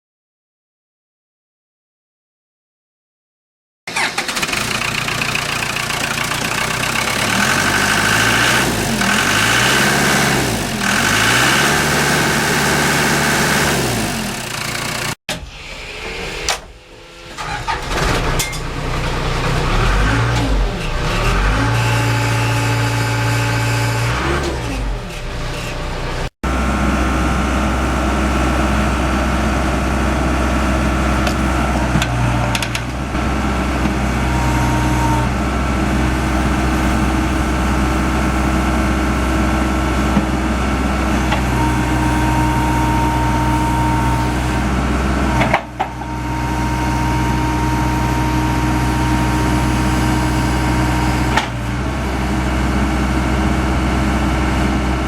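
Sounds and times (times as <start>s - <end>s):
diesel engine running: 3.9s - 15.2s, 16.0s - 55.0s.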